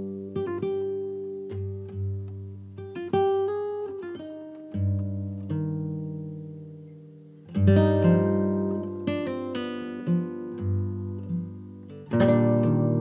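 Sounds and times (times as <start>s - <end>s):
guitar chords and plucked notes: 0.0s - 13.0s.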